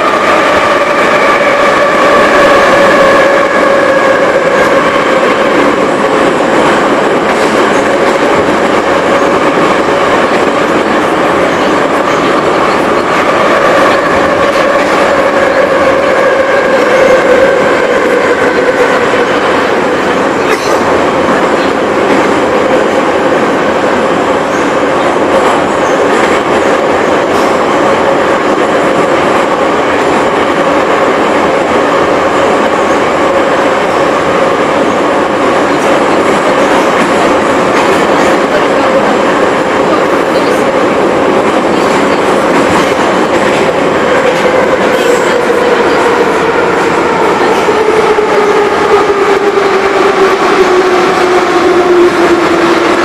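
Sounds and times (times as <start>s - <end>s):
subway train rolling noise: 0.0s - 53.0s.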